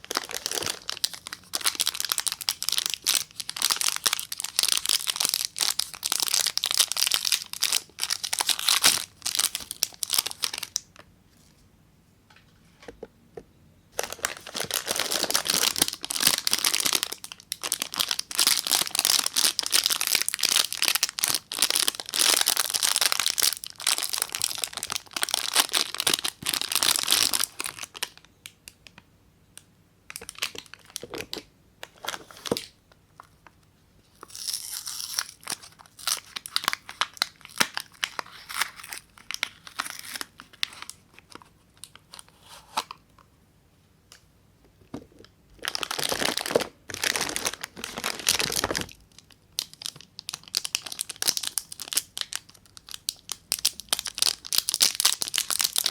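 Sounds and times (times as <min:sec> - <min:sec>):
packaging crinkling and tearing: 0:00.0 - 0:11.0, 0:14.0 - 0:29.0, 0:30.1 - 0:33.5, 0:34.2 - 0:43.0, 0:45.1 - 0:55.9.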